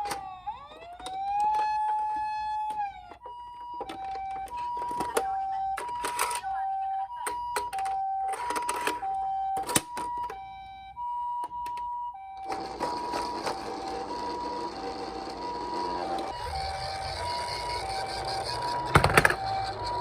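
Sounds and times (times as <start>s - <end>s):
toy two-tone siren: 0.0s - 20.0s.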